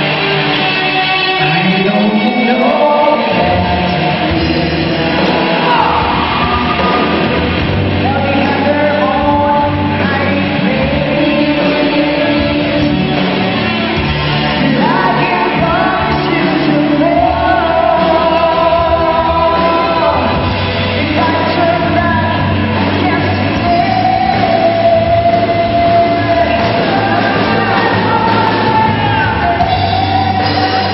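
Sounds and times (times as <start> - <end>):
bass guitar: 0.0 - 30.9
drums: 0.0 - 30.9
electric guitars: 0.0 - 30.9
person singing long notes: 1.4 - 30.9.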